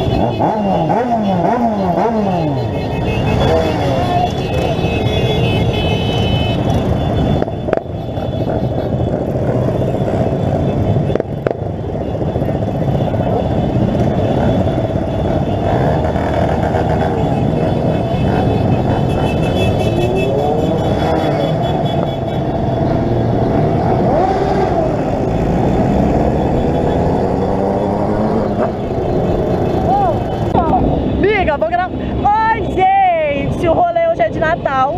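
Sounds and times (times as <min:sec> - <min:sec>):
motorcycle engines revving: 0:00.0 - 0:34.9
motorcycle engines running: 0:00.0 - 0:34.9.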